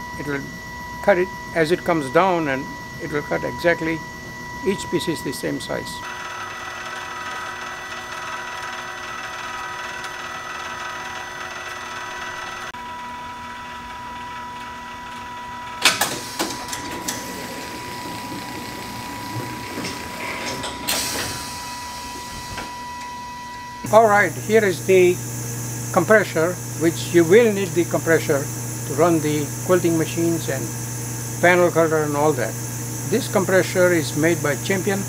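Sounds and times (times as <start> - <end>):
machine humming and whining: 0.0 - 35.0.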